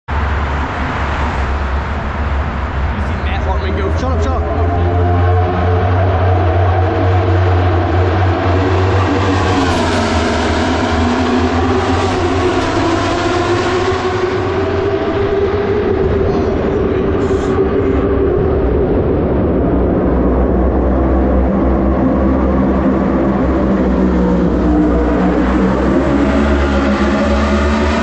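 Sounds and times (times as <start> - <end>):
motorcycle engine running loudly: 3.8 - 28.0.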